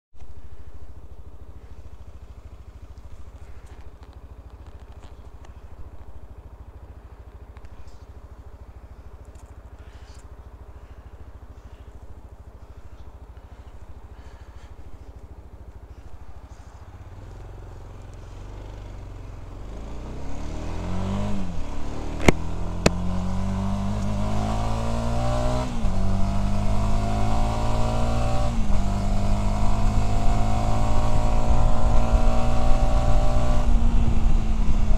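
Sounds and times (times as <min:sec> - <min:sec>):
motorcycle engine accelerating: 0:00.4 - 0:34.9.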